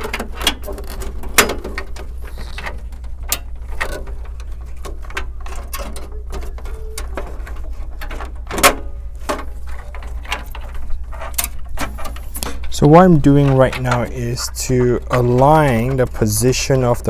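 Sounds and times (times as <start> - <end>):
clicks and knocks of plastic and metal: 0.0 - 17.0
steady low hum: 0.0 - 17.0.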